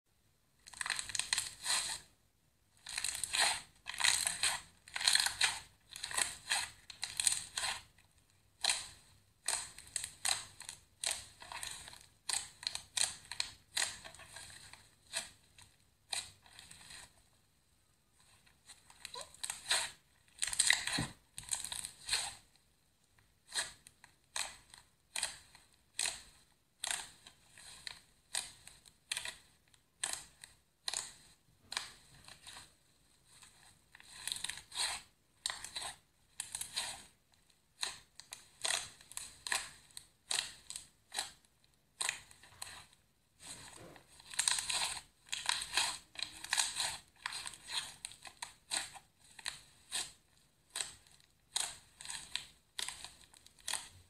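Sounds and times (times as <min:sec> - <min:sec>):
slime squishing and crackling: 0:00.6 - 0:02.1, 0:02.8 - 0:17.1, 0:18.2 - 0:22.5, 0:23.4 - 0:54.0.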